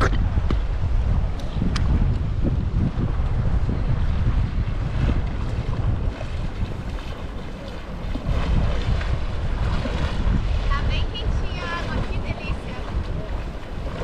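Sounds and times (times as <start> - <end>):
wind buffeting microphone: 0.0 - 14.0
small waves washing ashore: 0.8 - 14.0.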